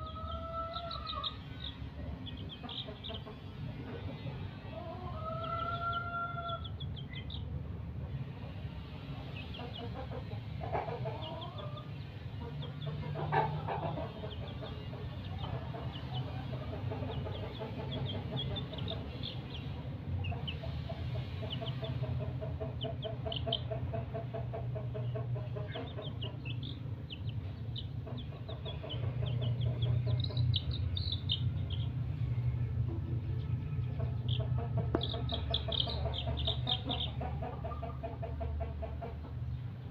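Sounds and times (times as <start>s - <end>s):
steady low rumble: 0.0s - 4.8s, 6.4s - 39.9s
chick peeping: 0.0s - 39.9s
chicken clucking: 0.0s - 39.9s.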